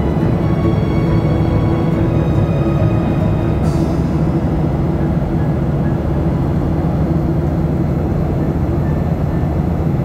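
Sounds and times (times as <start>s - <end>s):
moving vehicle rumble: 0.0s - 10.0s.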